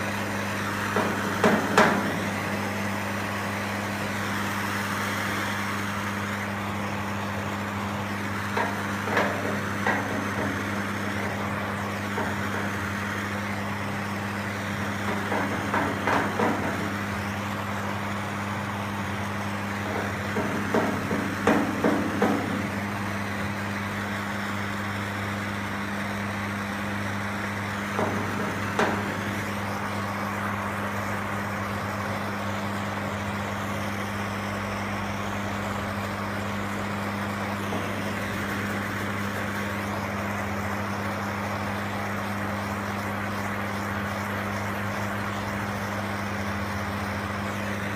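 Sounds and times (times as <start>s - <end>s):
steady hum and hiss: 0.0s - 47.9s.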